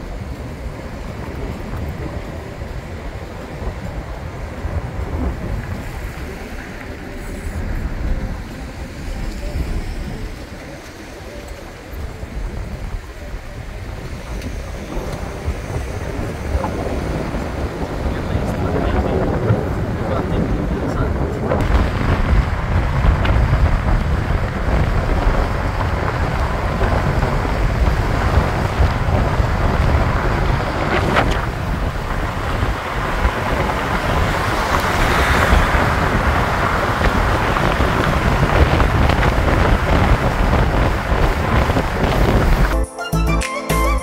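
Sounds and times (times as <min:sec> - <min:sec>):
wind buffeting microphone: 0:00.0 - 0:42.8
moving vehicle noise: 0:00.0 - 0:44.0.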